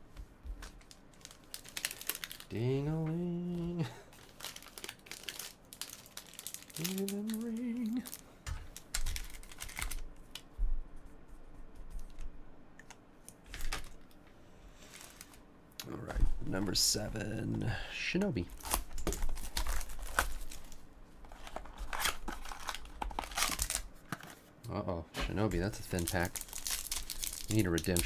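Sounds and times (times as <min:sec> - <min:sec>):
card pack wrappers crinkling: 0:00.6 - 0:10.5, 0:13.5 - 0:14.2, 0:14.8 - 0:24.4, 0:25.2 - 0:28.0.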